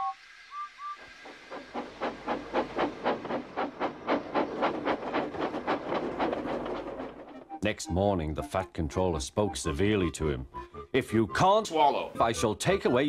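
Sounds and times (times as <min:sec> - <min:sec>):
steam locomotive chuffing: 0:00.0 - 0:11.4.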